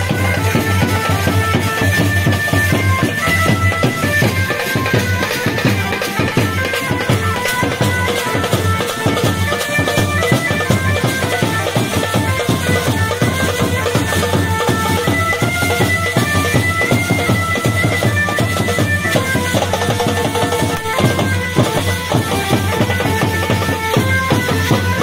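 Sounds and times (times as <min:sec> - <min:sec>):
wind instrument melody: 0:00.0 - 0:25.0.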